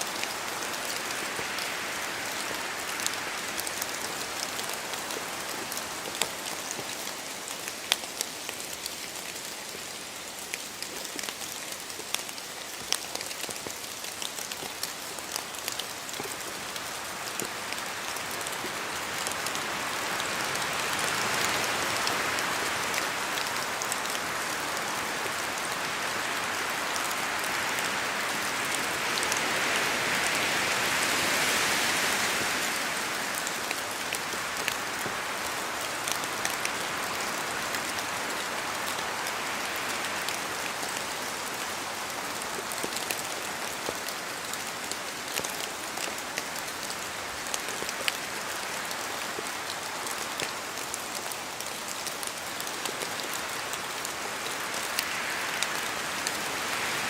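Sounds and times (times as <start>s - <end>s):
rain in a forest: 0.0s - 57.0s
water drips from trees: 0.0s - 57.0s.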